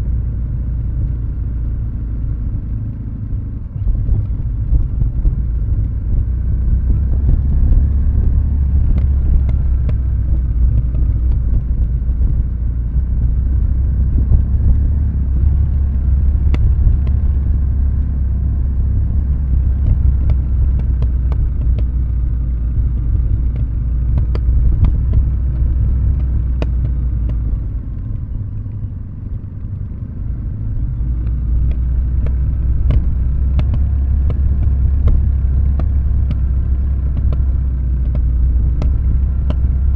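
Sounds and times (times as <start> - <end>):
motorcycle engine at low revs: 0.0 - 39.9.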